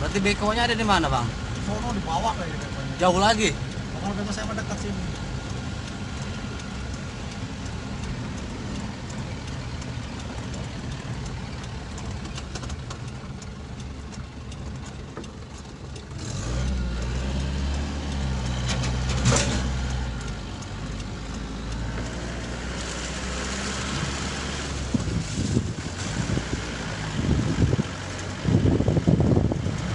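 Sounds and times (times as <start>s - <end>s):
road noise: 0.0s - 29.9s
vehicle engine running: 0.0s - 29.9s.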